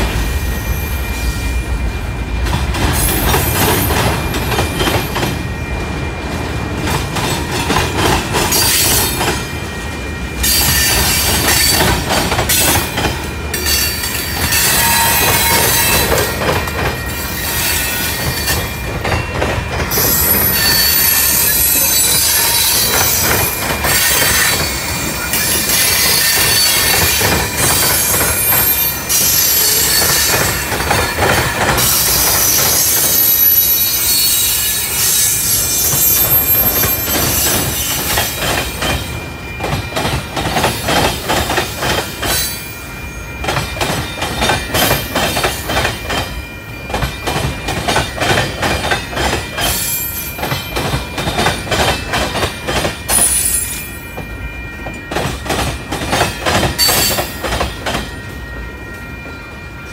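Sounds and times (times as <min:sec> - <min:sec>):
train wheels clickety-clack: 0:00.0 - 0:42.7, 0:43.3 - 0:59.9
wheels squealing against rails: 0:00.0 - 0:59.9.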